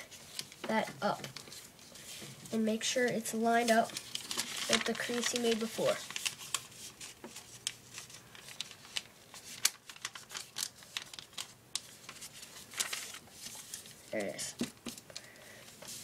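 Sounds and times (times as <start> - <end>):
paper folding and creasing: 0.0 - 16.0.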